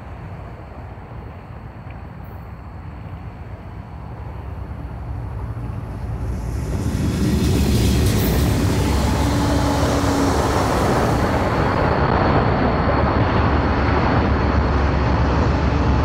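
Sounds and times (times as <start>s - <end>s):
locomotive engine rumble: 0.0s - 16.0s
train wheels on rails: 0.0s - 16.0s.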